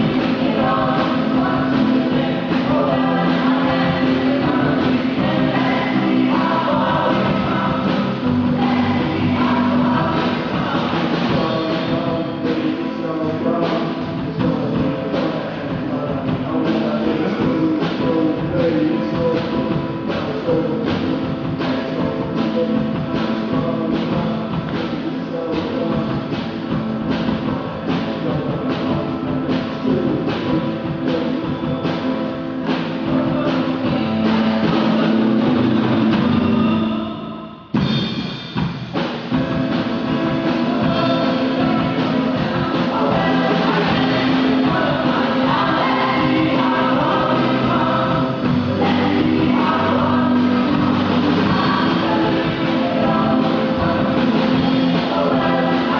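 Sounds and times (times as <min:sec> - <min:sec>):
loud music with singing and drums: 0:00.0 - 0:55.9.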